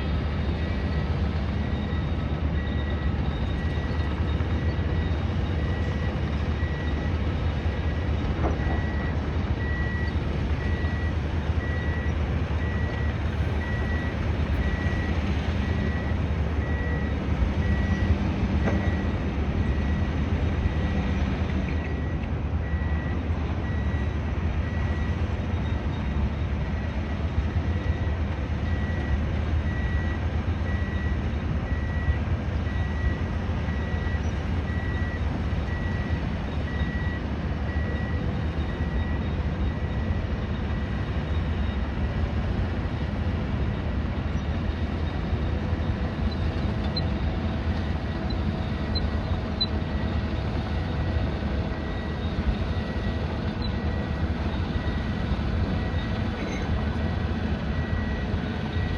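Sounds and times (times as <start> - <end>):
construction site rumble: 0.0 - 58.9
passing traffic: 0.0 - 58.9.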